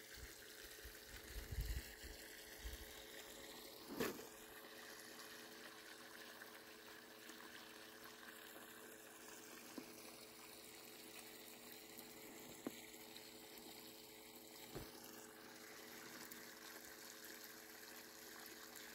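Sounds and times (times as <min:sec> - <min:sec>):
running water in a ditch: 0:00.0 - 0:18.9.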